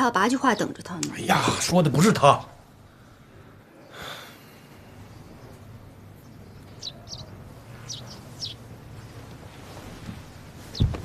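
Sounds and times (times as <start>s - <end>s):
faint low hum: 0.0s - 11.0s
small birds chirping: 0.0s - 11.0s.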